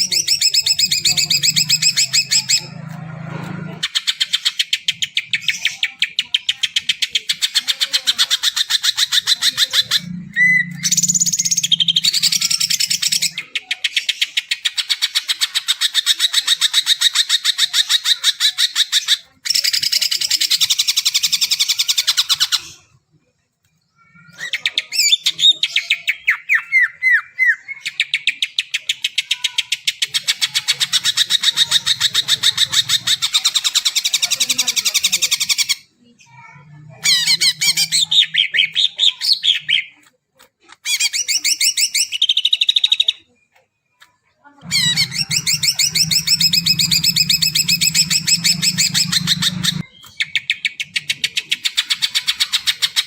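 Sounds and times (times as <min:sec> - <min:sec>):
bird singing fast chatter: 0:00.0 - 0:02.9, 0:03.8 - 0:23.0, 0:23.9 - 0:40.0, 0:44.6 - 0:53.0.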